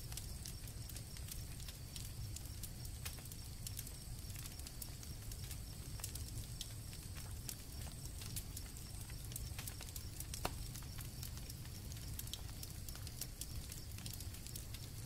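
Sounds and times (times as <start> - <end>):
campfire crackling: 0.0 - 15.0
crickets trilling: 0.0 - 15.0.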